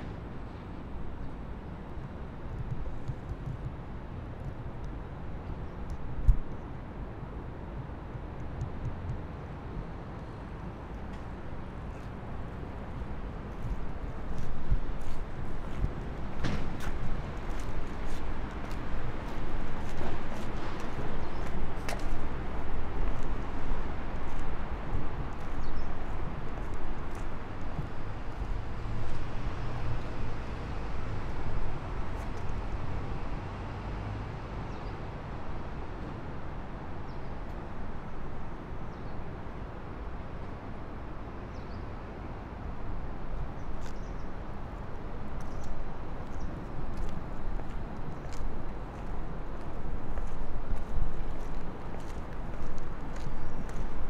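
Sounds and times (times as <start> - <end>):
distant traffic rumble: 0.0 - 54.0.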